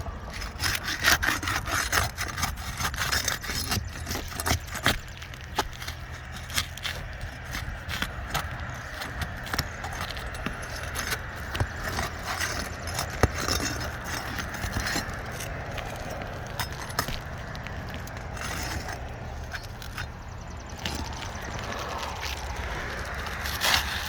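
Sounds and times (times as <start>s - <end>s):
brittle shingles being handled: 0.0s - 24.0s
tools clicking and scraping: 0.0s - 24.0s
steady low rumble: 4.7s - 24.0s.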